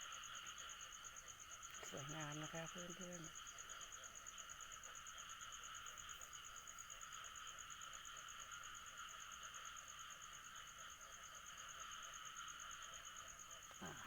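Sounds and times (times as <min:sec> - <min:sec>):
crickets trilling: 0:00.0 - 0:14.0
low insect buzz: 0:00.0 - 0:14.0.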